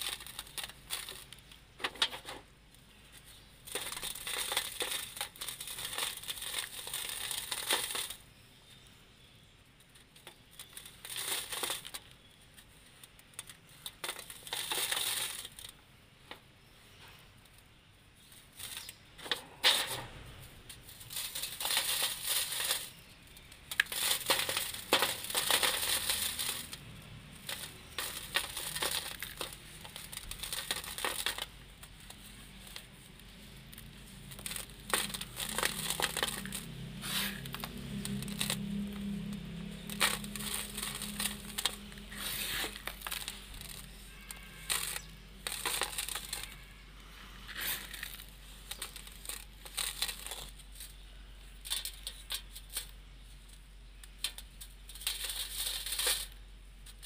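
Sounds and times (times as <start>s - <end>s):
crumbs trickling down: 0.0s - 8.4s, 9.8s - 16.4s, 18.2s - 57.0s
gritty crunching of cement lumps: 0.0s - 8.8s, 9.8s - 17.6s, 18.2s - 57.0s.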